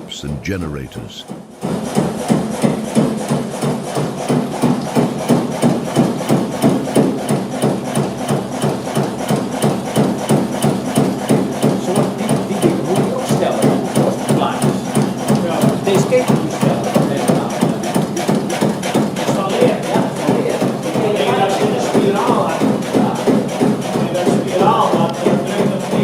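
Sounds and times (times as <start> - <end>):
diesel engine knocking: 1.7 - 26.0.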